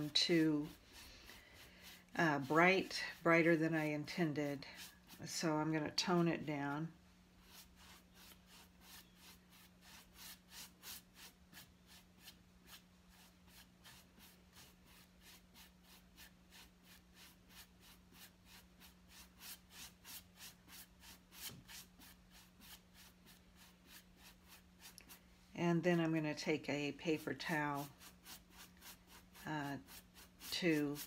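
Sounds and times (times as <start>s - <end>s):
paintbrush scratching on canvas: 0.0s - 6.5s, 7.4s - 25.2s, 27.0s - 31.0s.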